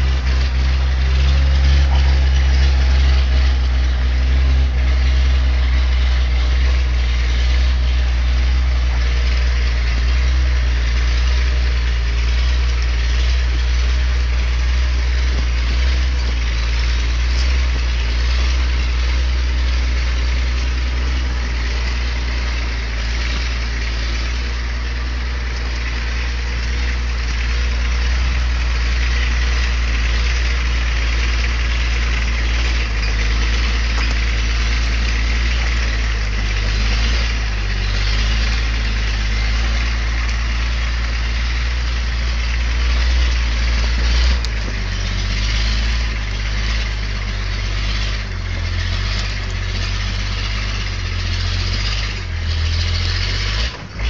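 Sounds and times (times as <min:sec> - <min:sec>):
truck engine under load: 0:00.0 - 0:54.0.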